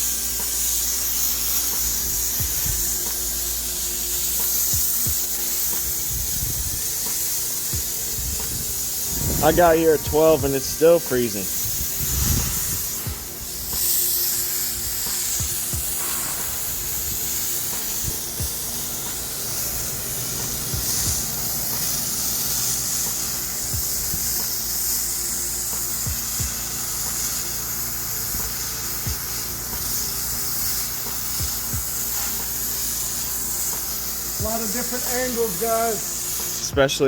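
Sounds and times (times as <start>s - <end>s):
pressure washer spraying water: 0.0s - 37.0s.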